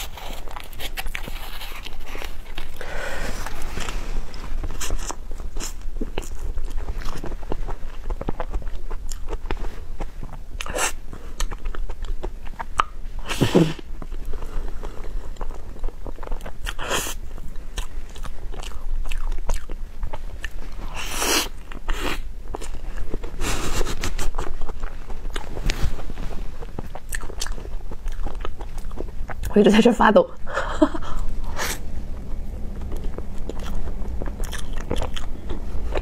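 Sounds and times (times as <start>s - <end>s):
person chewing: 0.0s - 29.5s, 30.8s - 36.0s.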